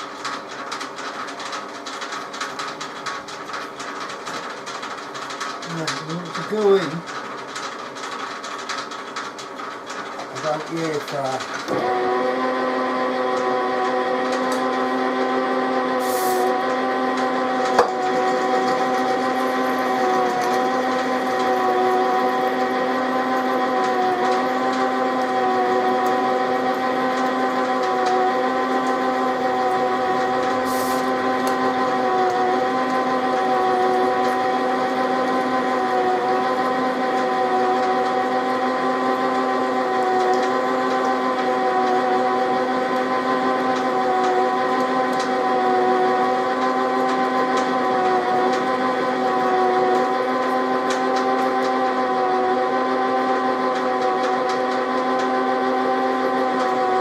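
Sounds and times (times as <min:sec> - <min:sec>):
metal lathe gear whine: 0:03.7 - 0:07.9, 0:08.5 - 0:57.0.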